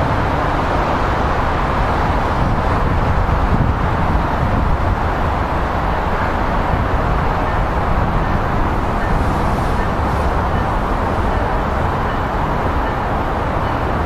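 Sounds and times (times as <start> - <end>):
traffic rumble and hiss: 0.0 - 14.0.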